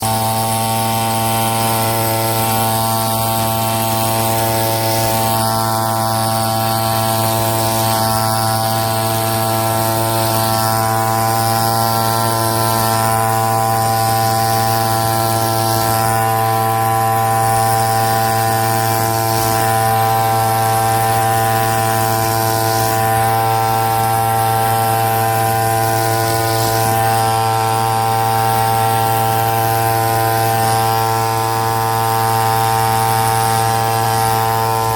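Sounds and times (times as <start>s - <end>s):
brush cutter engine running: 0.0s - 34.9s.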